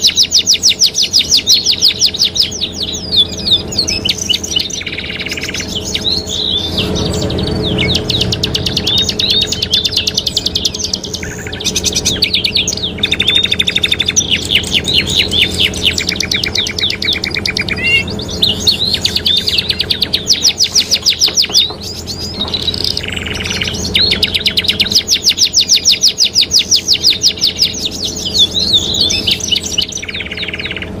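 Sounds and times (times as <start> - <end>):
canaries singing: 0.0 - 31.0
steady low hum: 0.0 - 31.0.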